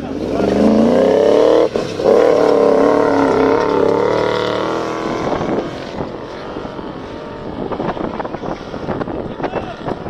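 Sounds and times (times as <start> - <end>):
car engine revving high: 0.0 - 9.0
rough crackling noises: 1.6 - 10.0.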